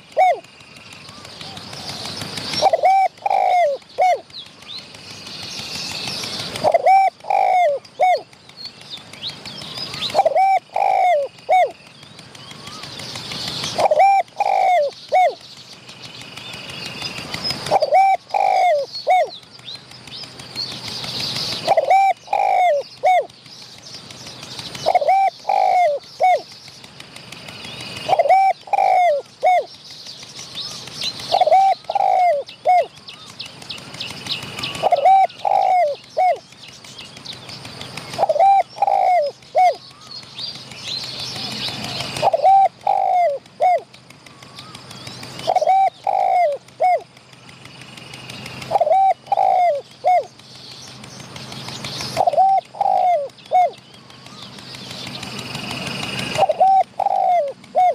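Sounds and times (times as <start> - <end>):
doves cooing: 0.0 - 4.3, 4.9 - 8.4, 9.7 - 11.8, 12.4 - 15.4, 17.1 - 19.5, 21.1 - 23.4, 24.0 - 29.8, 30.7 - 36.5, 37.2 - 57.9.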